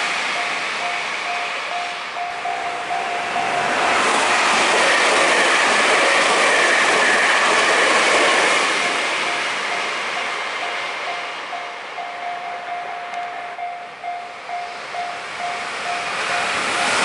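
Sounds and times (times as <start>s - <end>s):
electric train passing: 0.0s - 17.0s
level crossing warning bell: 0.0s - 17.0s.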